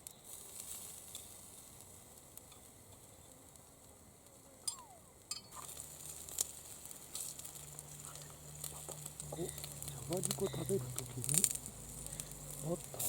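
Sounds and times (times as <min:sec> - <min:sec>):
food sizzling on griddle: 0:00.0 - 0:03.9, 0:04.6 - 0:13.0.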